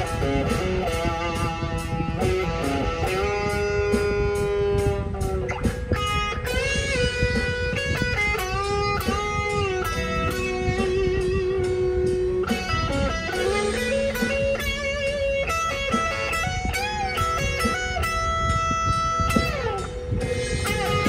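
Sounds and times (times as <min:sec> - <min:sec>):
electric guitar lead line: 0:00.0 - 0:21.0.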